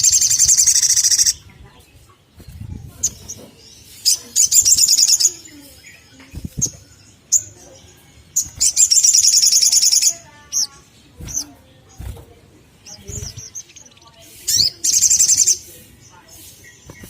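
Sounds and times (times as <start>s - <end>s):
sunbird chirps and trills: 0.0s - 17.0s.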